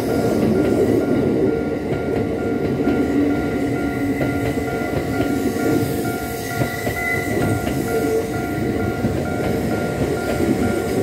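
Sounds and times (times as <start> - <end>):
level-crossing warning bell: 0.0 - 11.0
train wheels rumbling and clacking: 0.0 - 11.0.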